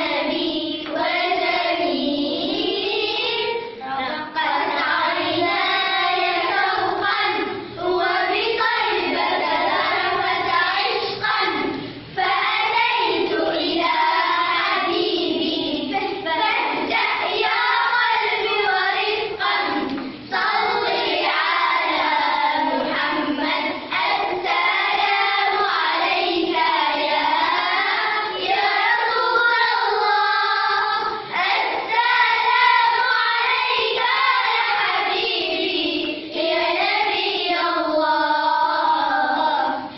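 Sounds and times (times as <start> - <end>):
children singing together: 0.0 - 39.9.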